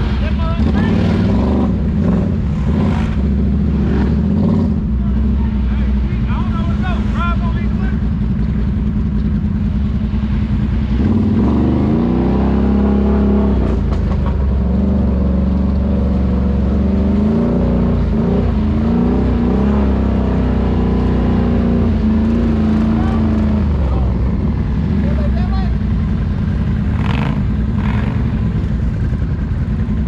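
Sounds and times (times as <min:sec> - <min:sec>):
atv engine revving: 0:00.0 - 0:30.0.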